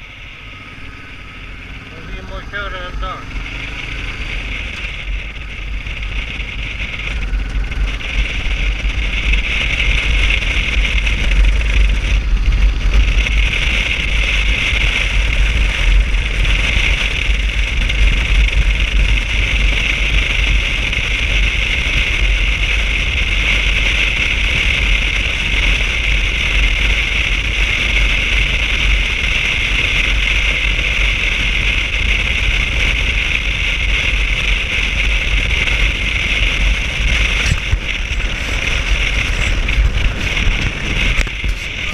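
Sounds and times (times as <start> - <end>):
motorcycle engine rumble: 0.0 - 41.9
wind noise: 0.0 - 41.9.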